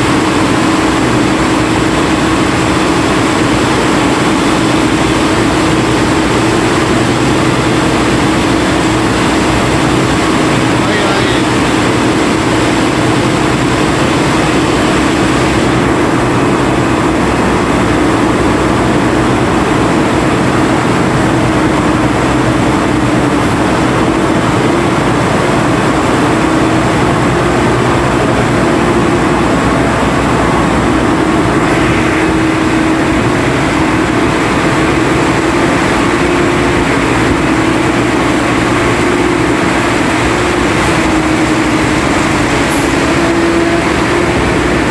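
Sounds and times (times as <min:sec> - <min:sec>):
heavy boat engine humming: 0:00.0 - 0:44.9.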